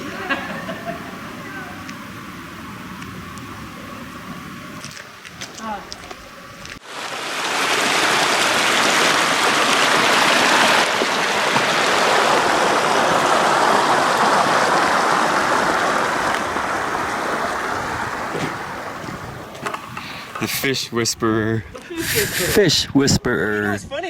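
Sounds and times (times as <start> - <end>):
water cascading loudly: 0.0 - 21.0.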